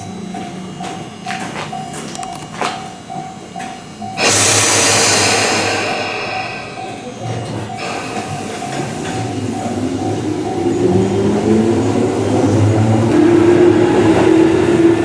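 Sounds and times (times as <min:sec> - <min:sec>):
electric train rumbling: 0:00.0 - 0:15.0
train motor whine: 0:00.0 - 0:15.0.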